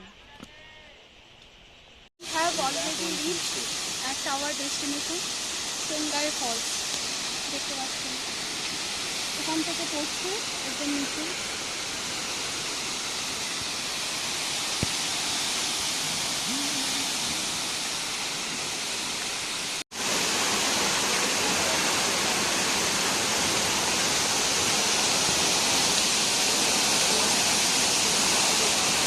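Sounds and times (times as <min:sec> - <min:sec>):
waterfall roaring: 0:02.2 - 0:29.0.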